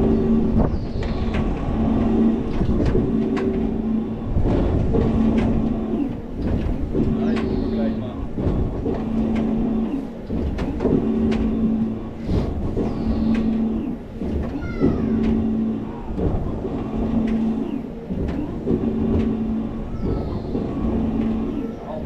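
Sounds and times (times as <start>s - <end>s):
ride electric drive humming: 0.0s - 22.0s
ride rumble: 0.0s - 22.0s.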